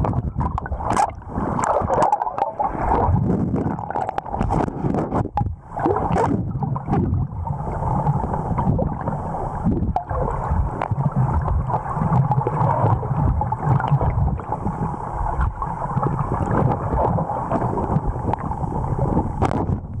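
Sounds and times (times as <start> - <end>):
muffled underwater rush and gurgle: 0.0 - 20.0.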